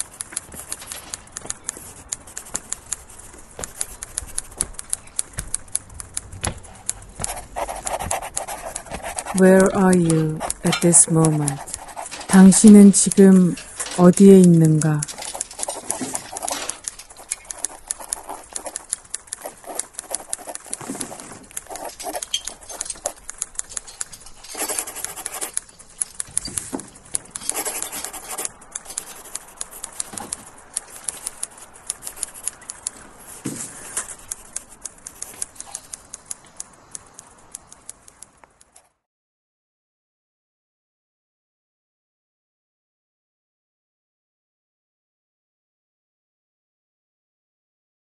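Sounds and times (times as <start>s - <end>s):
clicks and taps: 0.0s - 38.9s.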